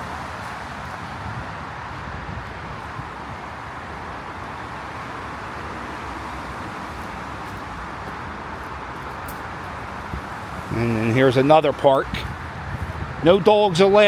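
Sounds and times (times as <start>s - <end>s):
highway traffic roar: 0.0s - 14.0s.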